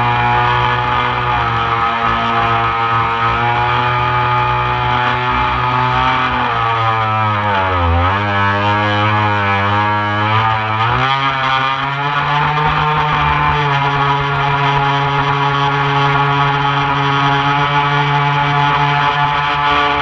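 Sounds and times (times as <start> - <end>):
model boat motor running: 0.0 - 20.0.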